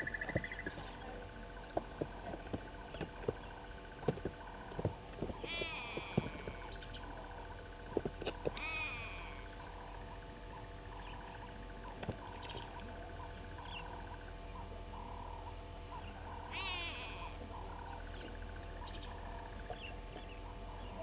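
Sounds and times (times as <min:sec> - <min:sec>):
birds calling: 0:00.0 - 0:21.0
low electrical hum: 0:00.0 - 0:21.0.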